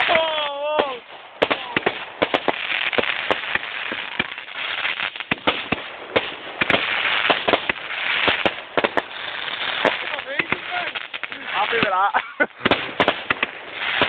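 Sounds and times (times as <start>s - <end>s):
fireworks bangs and pops: 0.0s - 14.0s
fireworks hiss and crackle: 0.0s - 14.0s.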